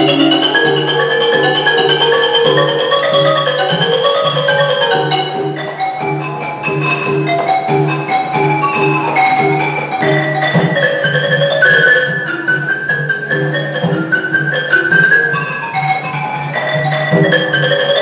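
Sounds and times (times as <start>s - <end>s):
xylophone fast run: 0.0s - 18.0s.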